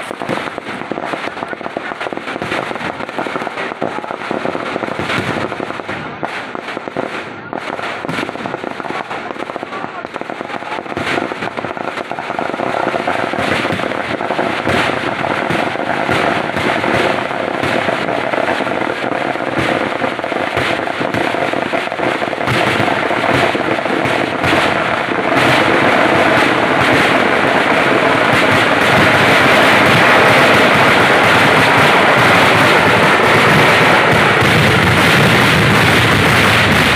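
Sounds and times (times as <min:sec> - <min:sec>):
firecrackers cracking and popping: 0:00.0 - 0:36.9.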